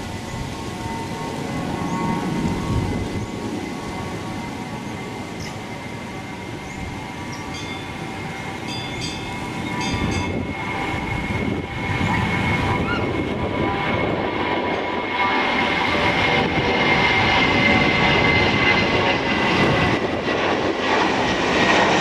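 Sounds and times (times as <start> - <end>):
distant jet engines at takeoff: 0.0 - 22.0.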